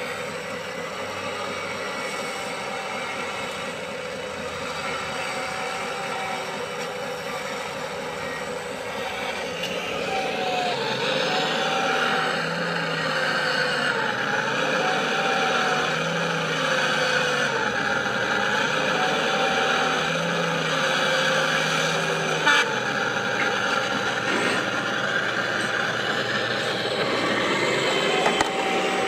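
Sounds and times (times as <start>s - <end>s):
mechanical hum: 0.0s - 29.0s
model excavator motor whine: 0.0s - 29.0s.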